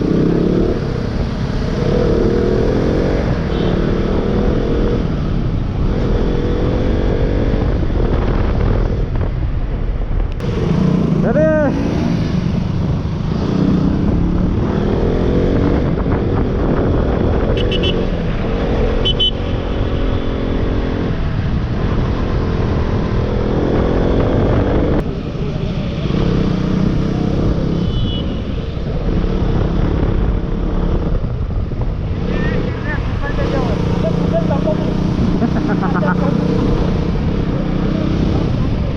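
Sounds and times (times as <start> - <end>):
motorcycle engine revving: 0.0 - 9.1, 10.4 - 38.9
wind and road noise: 0.0 - 38.9.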